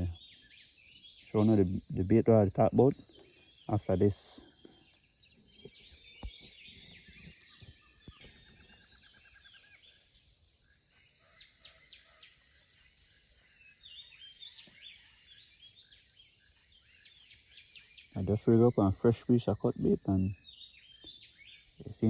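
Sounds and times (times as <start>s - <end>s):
high chattering bird calls: 0.0s - 22.0s.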